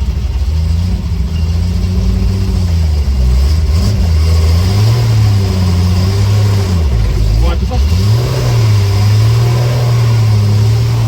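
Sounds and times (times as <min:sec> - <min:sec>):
car engine running unevenly: 0:00.0 - 0:11.0.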